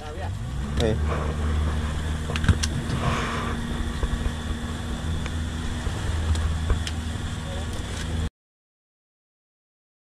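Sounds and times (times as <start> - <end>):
boat engine humming: 0.0 - 8.3.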